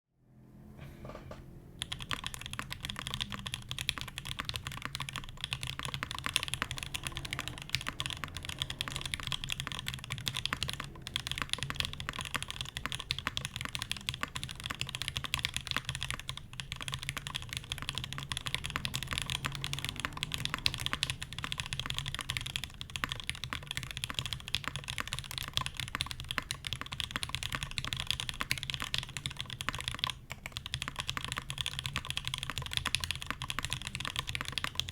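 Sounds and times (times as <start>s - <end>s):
fast typing on mechanical keyboard: 1.8s - 34.9s.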